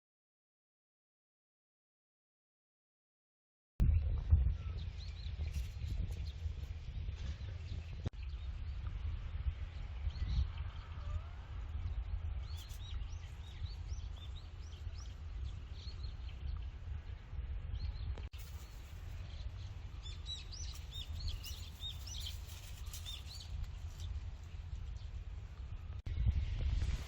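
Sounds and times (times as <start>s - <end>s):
steady low rumble: 3.8s - 27.0s
small birds chirping: 3.9s - 26.0s.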